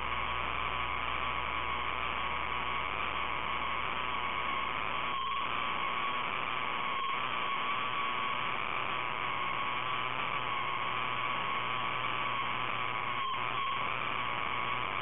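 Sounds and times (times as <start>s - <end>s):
electrical hum and hiss: 0.0s - 15.0s
high wavering whine: 0.0s - 15.0s.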